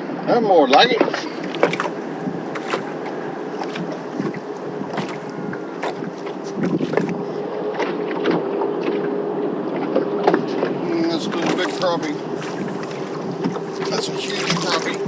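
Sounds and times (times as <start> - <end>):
wind on the microphone: 0.0 - 15.0.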